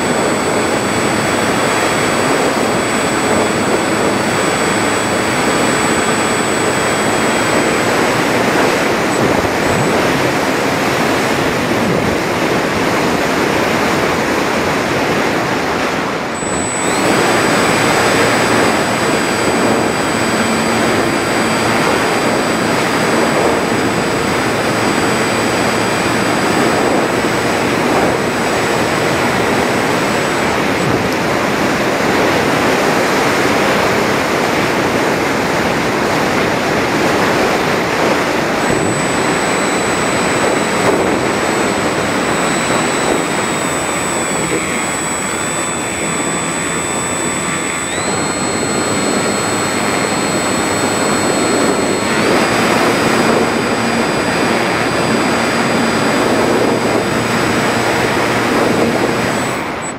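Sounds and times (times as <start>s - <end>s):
electric motor and propeller whine: 0.0s - 59.9s
wind rushing over camera: 0.0s - 59.9s.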